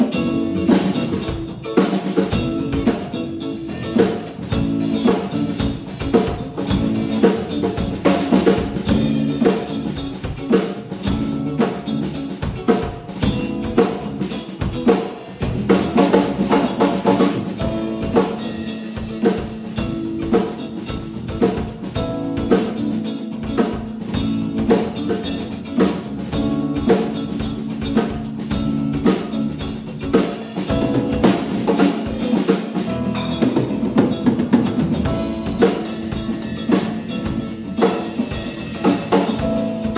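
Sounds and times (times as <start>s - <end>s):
backing music tones: 0.0s - 39.9s
drum kit groove: 0.0s - 39.9s.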